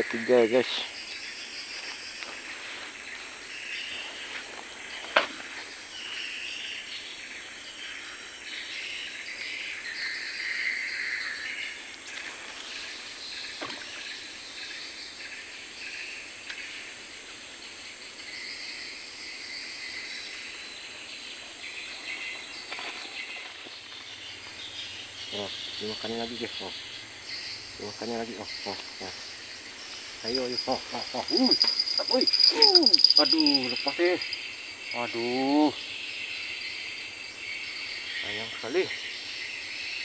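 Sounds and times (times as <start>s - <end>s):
birds calling: 0.0s - 40.0s
insects calling: 0.0s - 40.0s.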